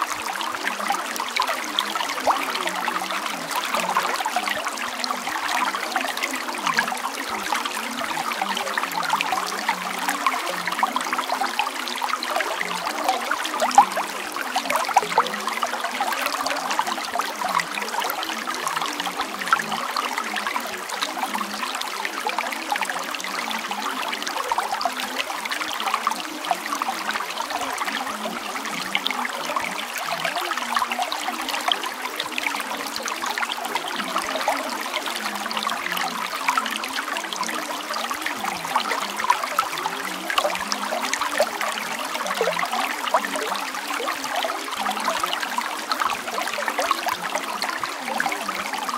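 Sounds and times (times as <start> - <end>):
trickling running water: 0.0 - 48.9.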